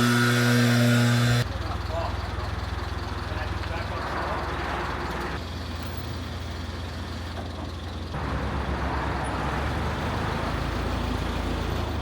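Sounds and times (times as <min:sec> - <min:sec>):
truck engine idling: 0:00.1 - 0:11.2.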